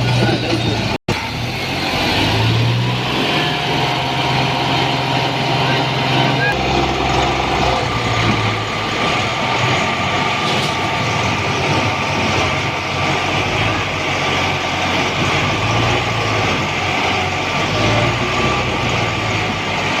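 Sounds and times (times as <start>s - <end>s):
tractor diesel engine at high revs: 0.0s - 20.0s.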